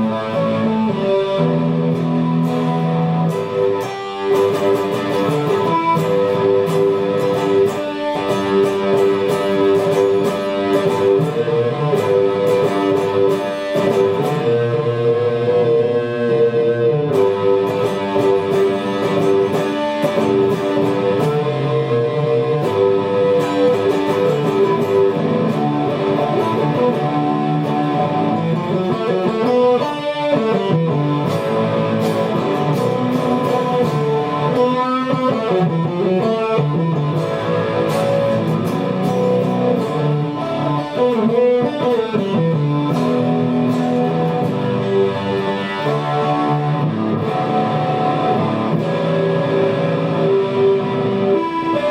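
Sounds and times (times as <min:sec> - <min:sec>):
guitar ringing chords: 0:00.0 - 0:51.9.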